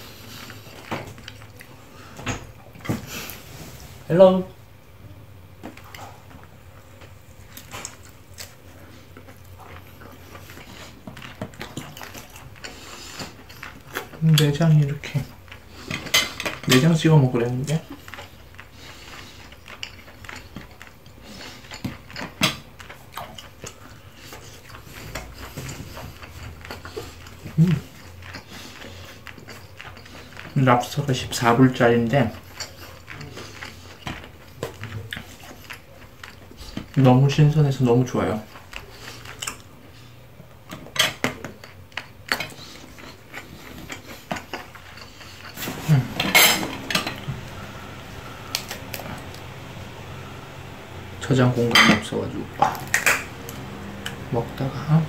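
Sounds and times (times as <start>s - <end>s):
eating sounds: 5.7s - 16.8s, 17.6s - 55.0s.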